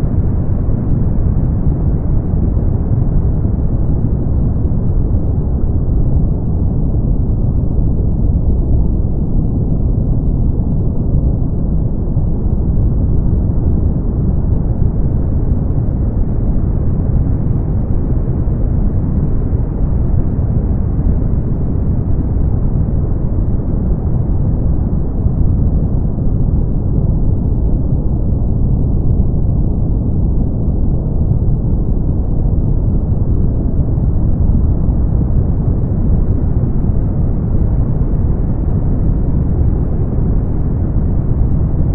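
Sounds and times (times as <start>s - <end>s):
brown noise: 0.0s - 41.9s.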